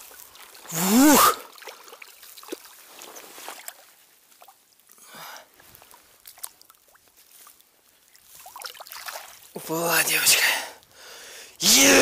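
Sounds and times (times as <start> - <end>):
river water swishing and splashing: 0.0 - 10.3.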